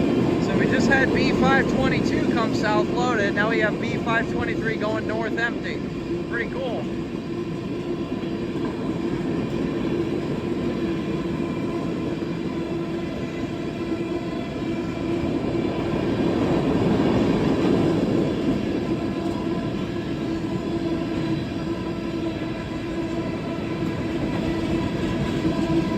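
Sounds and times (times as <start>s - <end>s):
freight train wheels rolling: 0.0s - 25.9s.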